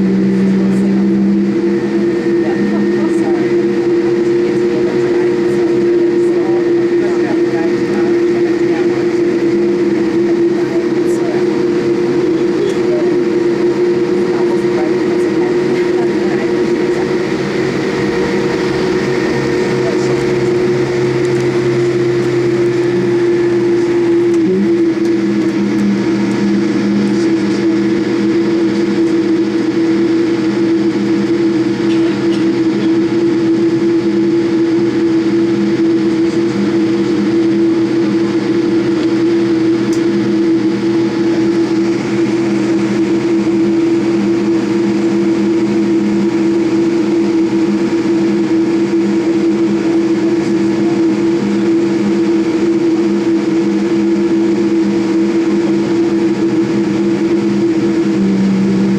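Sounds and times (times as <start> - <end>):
jet engines humming: 0.0 - 58.9.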